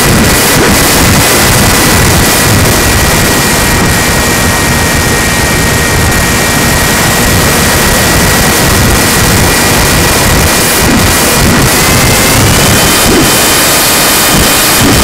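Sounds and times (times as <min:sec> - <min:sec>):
loud rushing noise: 0:00.0 - 0:15.0
model plane motor whining: 0:02.4 - 0:15.0.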